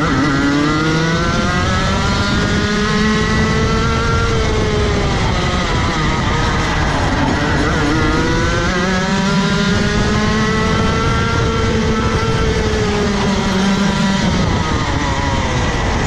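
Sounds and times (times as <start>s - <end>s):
kart engine at full throttle: 0.0s - 16.0s.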